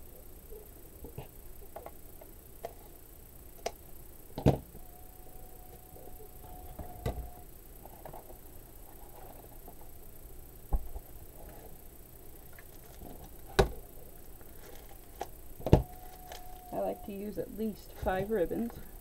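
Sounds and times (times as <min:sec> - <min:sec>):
faint thin steady tone: 0:02.9 - 0:10.6, 0:11.2 - 0:19.0.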